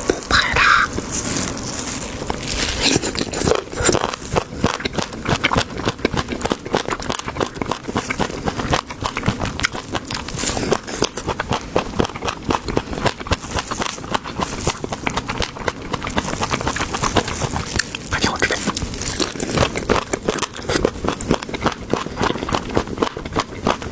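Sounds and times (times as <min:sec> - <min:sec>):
crunchy chewing: 0:00.0 - 0:23.9.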